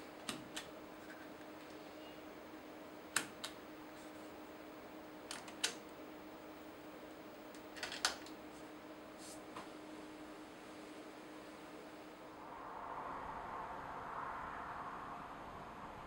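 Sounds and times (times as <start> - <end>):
steady faint hum: 0.0 - 16.0.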